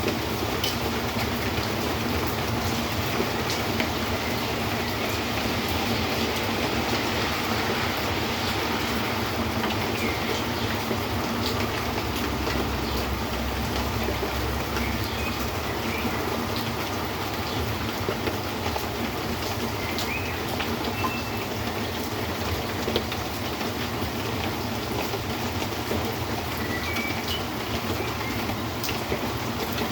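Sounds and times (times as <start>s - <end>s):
raindrops ticking: 0.0s - 29.9s
steady rain hissing: 0.0s - 29.9s.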